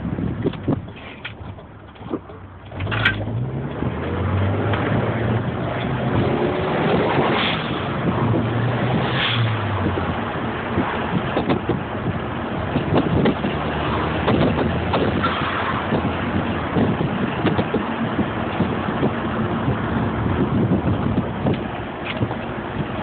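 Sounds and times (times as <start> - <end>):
low engine hum: 0.0 - 23.0
road and wind noise: 0.0 - 23.0.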